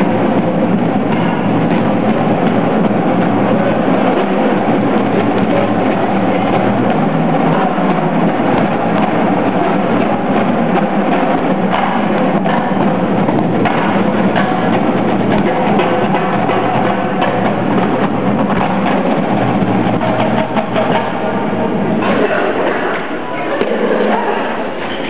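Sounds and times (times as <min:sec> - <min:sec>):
marching drumline drumming: 0:00.0 - 0:24.2.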